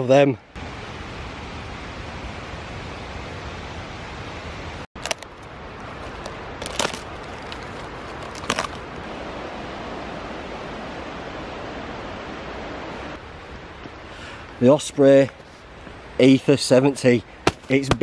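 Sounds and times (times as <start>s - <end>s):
rushing woodland noise: 0.0s - 18.0s.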